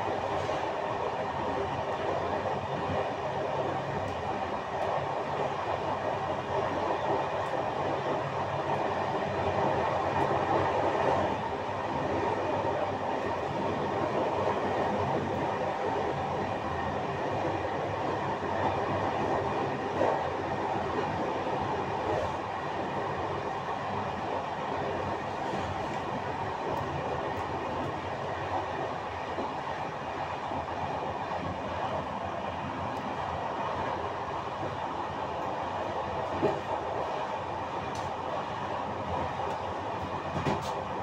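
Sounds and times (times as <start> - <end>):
train rolling rumble: 0.0 - 41.0.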